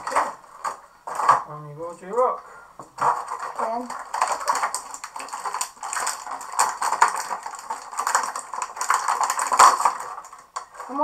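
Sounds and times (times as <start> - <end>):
plastic bag crinkling: 0.0 - 1.5, 2.9 - 11.0.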